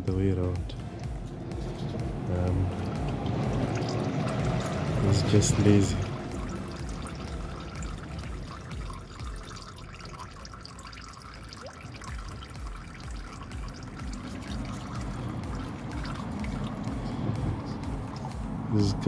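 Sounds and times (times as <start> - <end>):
oil trickling: 0.0 - 19.0.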